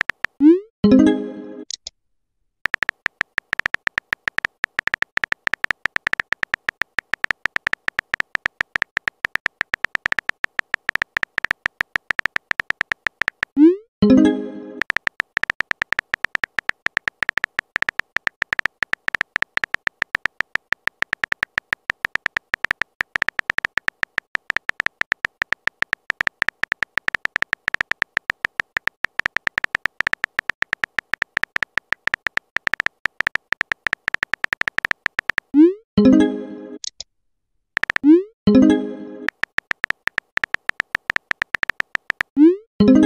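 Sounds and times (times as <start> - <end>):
keyboard typing ticks: 0.0 - 0.7, 2.6 - 36.2, 37.8 - 43.0.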